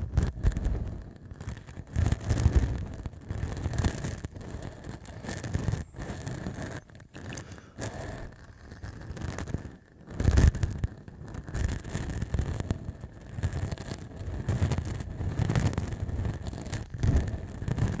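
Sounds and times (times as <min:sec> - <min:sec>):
stubble scratching on microphone: 0:00.0 - 0:18.0.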